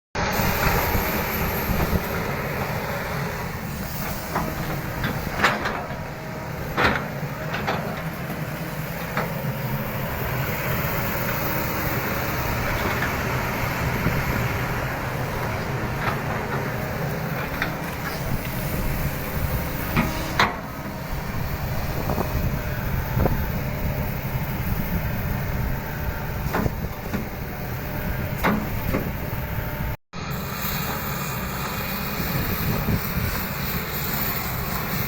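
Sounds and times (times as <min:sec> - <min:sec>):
diesel engine running: 0:00.2 - 0:35.0.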